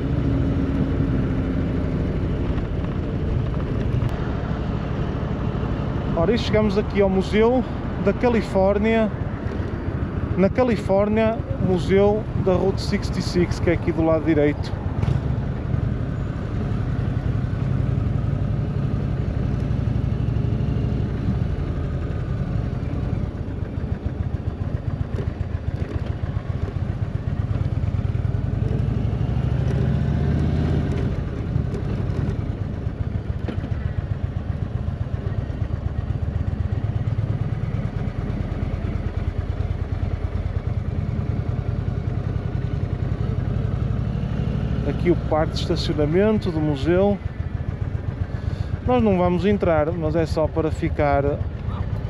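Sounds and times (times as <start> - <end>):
motorcycle engine rumbling: 0.0 - 52.0.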